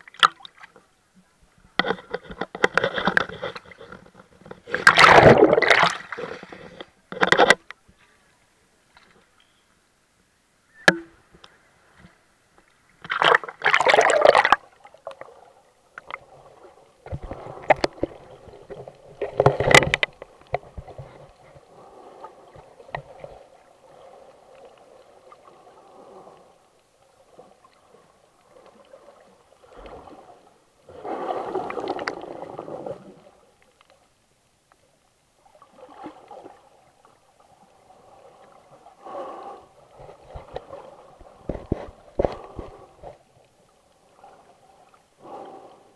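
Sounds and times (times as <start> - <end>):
underwater splashing: 1.8 - 7.6, 12.8 - 34.0, 35.4 - 45.9.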